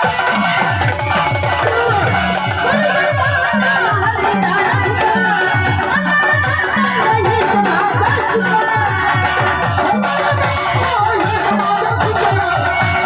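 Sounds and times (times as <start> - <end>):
continuous melodic line: 0.0 - 13.0
hand drum beating: 0.0 - 13.0.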